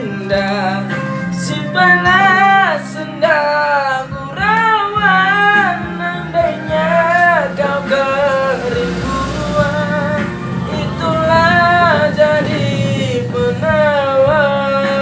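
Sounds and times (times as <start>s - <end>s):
guitar backing track: 0.0s - 15.0s
man singing: 0.0s - 15.0s
woman singing: 0.0s - 15.0s.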